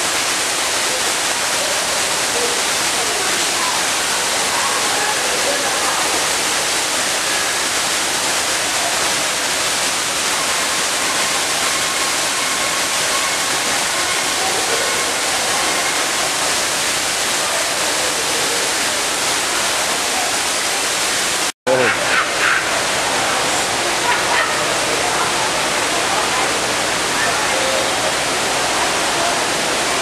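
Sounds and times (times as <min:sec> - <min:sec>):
falling water rushing: 0:00.0 - 0:30.0.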